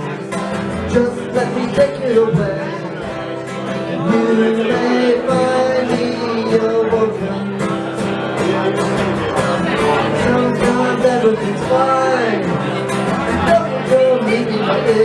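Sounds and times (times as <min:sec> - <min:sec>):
man singing live: 0:00.0 - 0:15.0
strummed acoustic guitar: 0:00.0 - 0:15.0.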